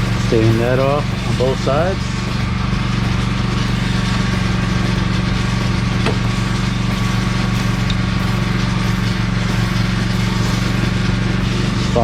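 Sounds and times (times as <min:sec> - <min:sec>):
belt sander sanding wood: 0:00.0 - 0:12.0.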